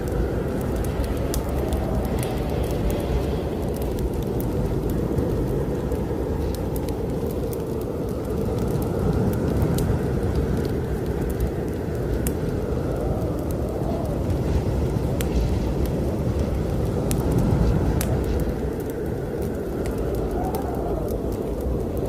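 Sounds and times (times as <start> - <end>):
fireplace fire crackling: 0.0 - 22.0
snowstorm wind blowing: 0.0 - 22.0.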